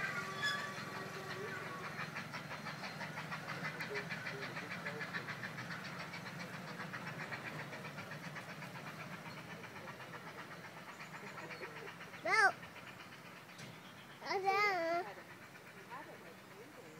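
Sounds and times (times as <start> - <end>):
low steady train rumble: 0.0 - 16.9
rapid even clicking of train: 0.0 - 16.9.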